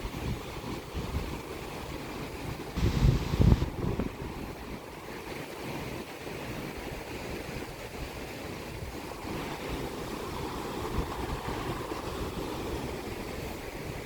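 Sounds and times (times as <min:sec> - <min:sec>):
ocean waves washing onto shore: 0:00.0 - 0:14.0.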